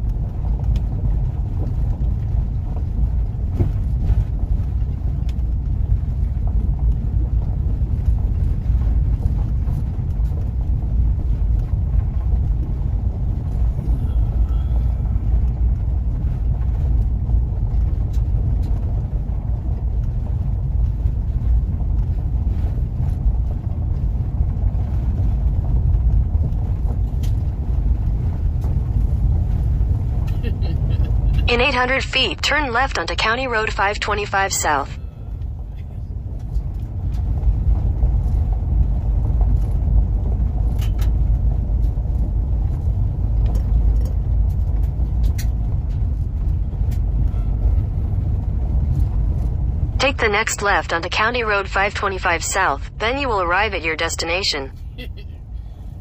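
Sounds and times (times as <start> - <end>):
van engine and tyres rumbling: 0.0 - 31.5, 35.2 - 50.0.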